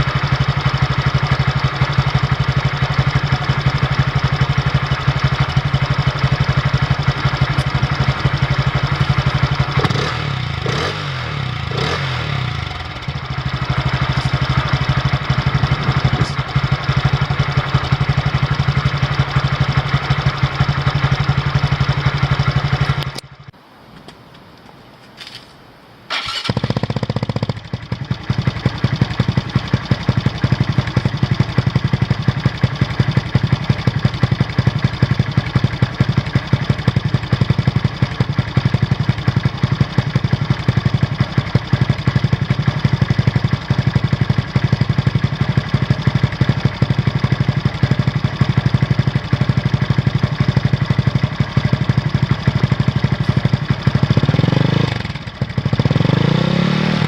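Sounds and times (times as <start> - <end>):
motorcycle engine starting and idling: 0.0 - 23.6, 26.1 - 57.0.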